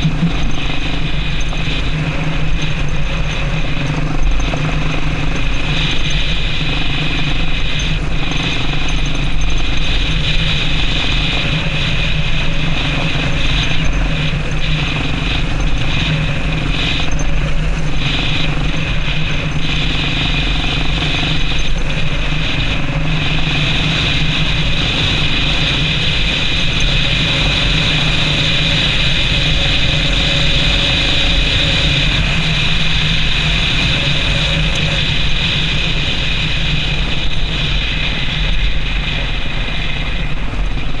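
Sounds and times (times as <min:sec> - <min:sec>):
motorcycle engine running: 0:00.0 - 0:41.0
road and wind noise: 0:00.0 - 0:41.0.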